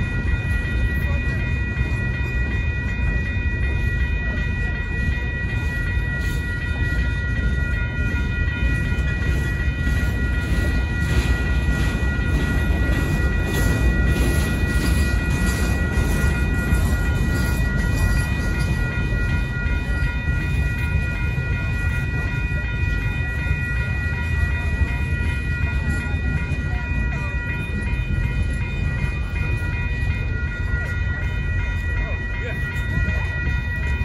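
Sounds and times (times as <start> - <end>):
crossing warning bell ringing: 0.0 - 34.0
freight cars rumbling over rails: 0.0 - 34.0.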